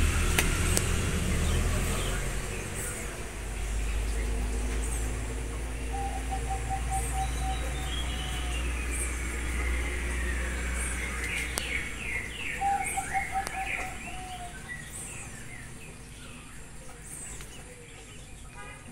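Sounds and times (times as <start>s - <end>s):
steady low rumble: 0.0s - 17.2s
birds chirping: 0.0s - 18.9s.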